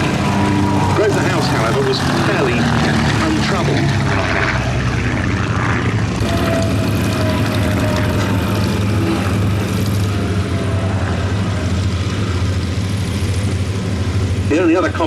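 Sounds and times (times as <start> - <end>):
faint engine tone: 0.0 - 15.0
piston aircraft engines droning: 0.0 - 15.0.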